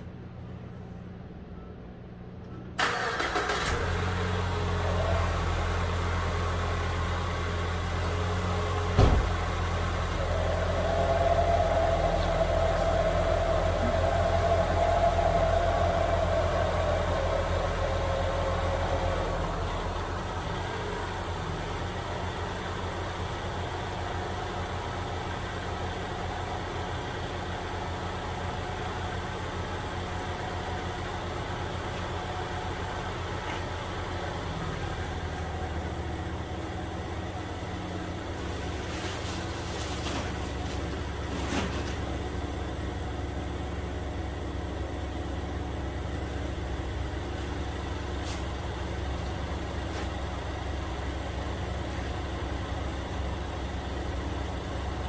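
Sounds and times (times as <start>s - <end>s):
car engine idling: 2.8s - 55.0s.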